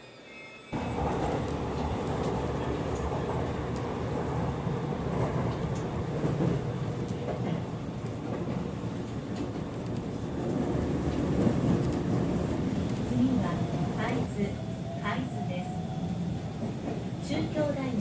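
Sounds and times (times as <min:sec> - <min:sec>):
electric train rumble: 0:00.7 - 0:18.0.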